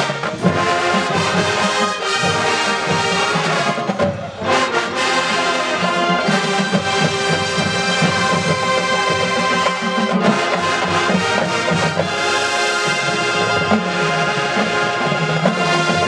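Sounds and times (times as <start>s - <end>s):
marching band music: 0.0s - 16.0s.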